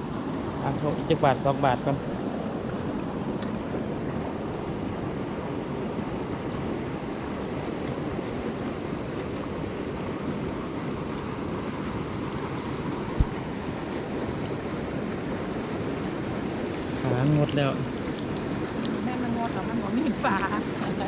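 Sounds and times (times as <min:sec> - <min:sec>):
storm water pouring from pipe: 0:00.4 - 0:21.0.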